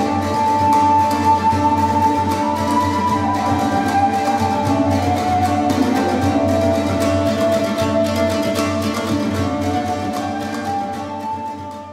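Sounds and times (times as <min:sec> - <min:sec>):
long held tones: 0:00.0 - 0:11.9
plucked string notes: 0:00.0 - 0:11.9.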